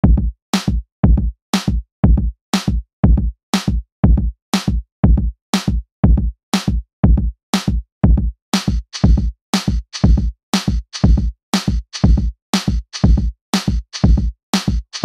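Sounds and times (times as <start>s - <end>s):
drum machine beat: 0.0s - 15.0s.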